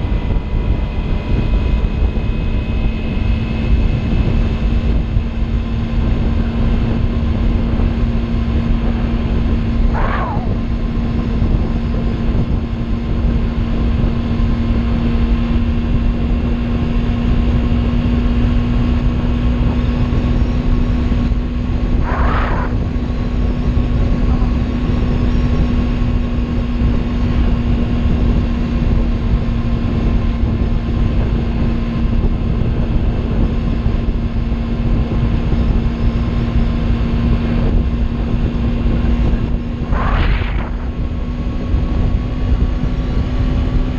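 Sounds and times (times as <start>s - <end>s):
motorcycle engine cruising: 0.0s - 43.9s
wind rumble on microphone: 0.0s - 43.9s.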